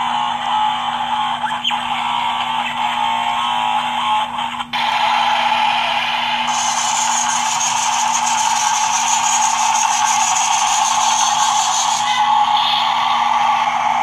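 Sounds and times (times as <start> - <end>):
toy electronic sound effects: 0.0 - 14.0.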